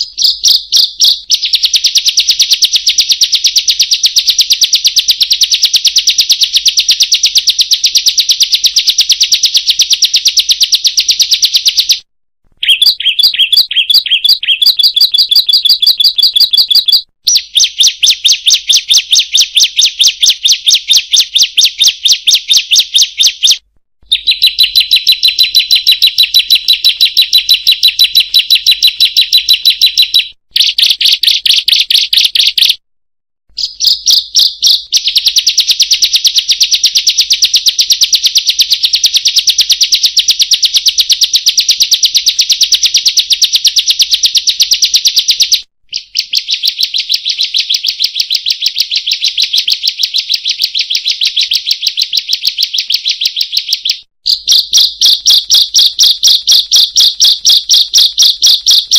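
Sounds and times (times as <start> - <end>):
bird singing fast chattering trill: 0.0 - 12.0, 12.6 - 32.8, 33.5 - 37.4, 42.0 - 58.9.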